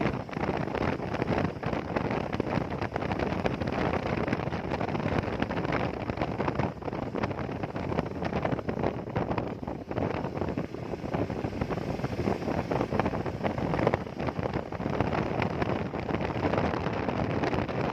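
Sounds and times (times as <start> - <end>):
motorcycle road and running noise: 0.0 - 17.9
wind buffeting microphone: 0.0 - 17.9.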